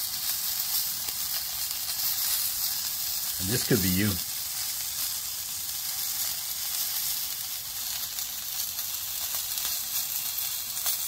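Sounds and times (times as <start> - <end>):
food sizzling on grill: 0.0 - 11.0.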